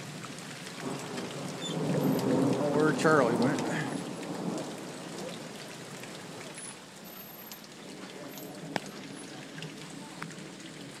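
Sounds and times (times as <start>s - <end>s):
hail and rain hissing: 0.0s - 11.0s
hailstones ticking: 0.0s - 11.0s.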